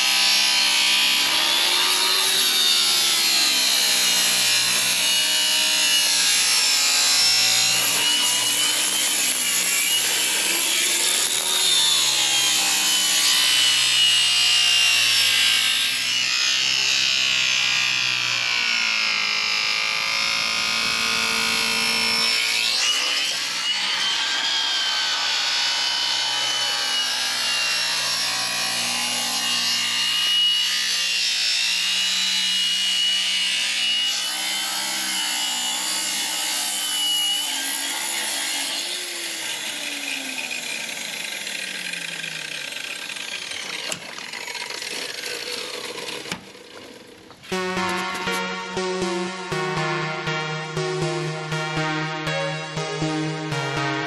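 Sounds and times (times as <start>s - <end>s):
angle grinder cutting: 0.0s - 48.4s.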